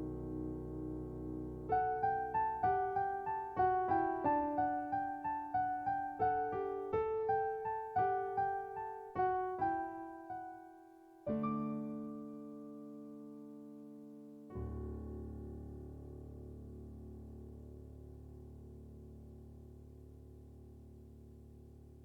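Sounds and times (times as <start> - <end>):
piano melody: 0.0 - 18.6
held piano chord: 0.0 - 19.2.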